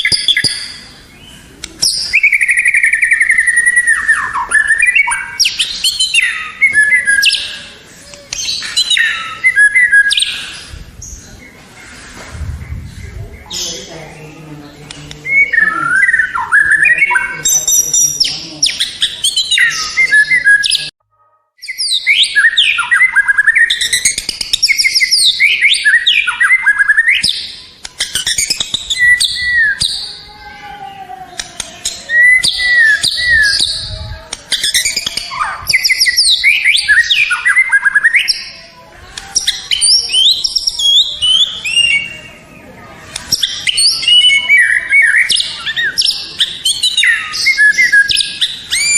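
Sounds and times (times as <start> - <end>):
bird singing varied song: 0.0 - 20.9, 21.6 - 48.9.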